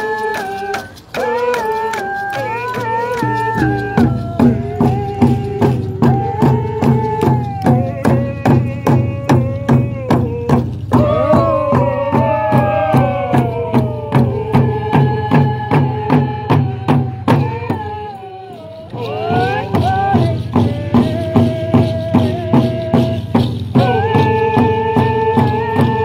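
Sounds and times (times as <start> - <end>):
hand drums beating: 0.0 - 18.2, 18.9 - 26.0
group singing: 0.0 - 26.0.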